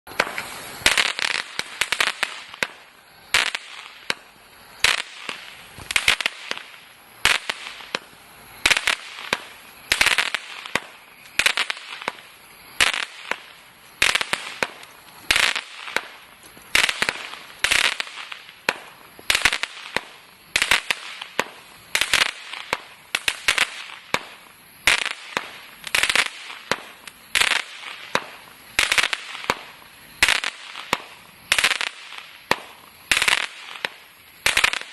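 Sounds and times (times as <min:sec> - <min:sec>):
faint firework crackling: 0:00.1 - 0:34.9
firework sharp cracks: 0:00.1 - 0:34.9.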